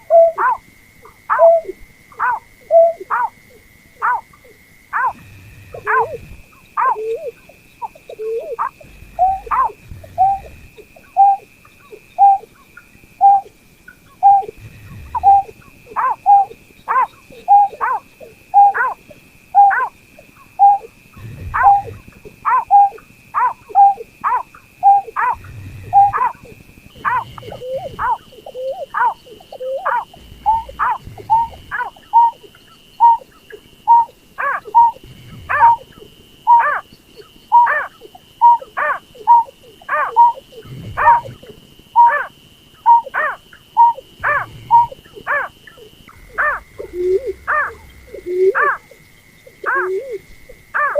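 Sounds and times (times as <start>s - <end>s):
snipe calling: 0.0s - 50.9s.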